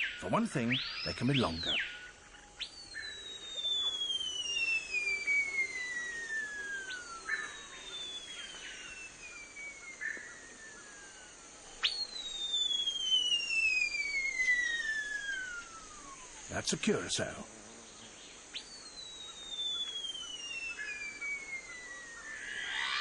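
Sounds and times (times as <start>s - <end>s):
bird whistling calls: 0.0s - 17.3s, 18.2s - 23.0s.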